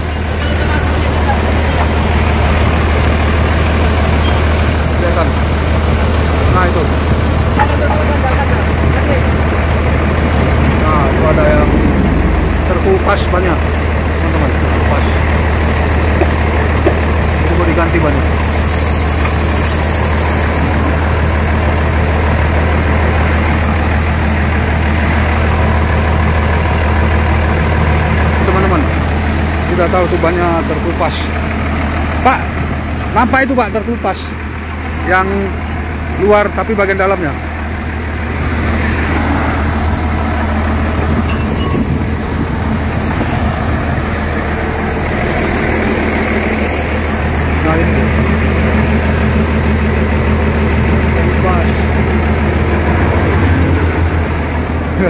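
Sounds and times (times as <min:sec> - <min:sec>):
diesel bus engine idling: 0:00.0 - 0:55.0.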